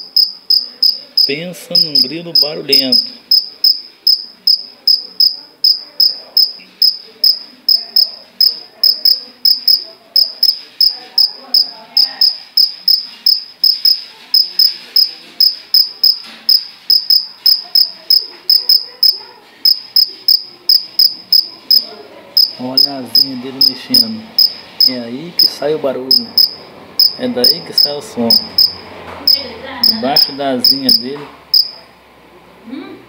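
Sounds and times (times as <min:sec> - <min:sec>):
cricket chirping: 0:00.0 - 0:25.5, 0:26.1 - 0:31.8.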